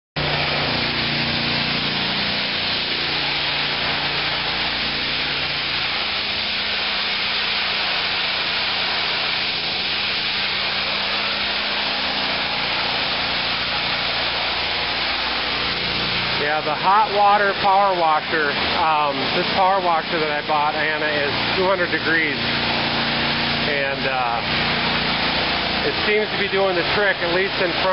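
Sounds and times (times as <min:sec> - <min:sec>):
low machine hum: 0:00.2 - 0:27.9
pressure washer spraying water: 0:00.2 - 0:27.9.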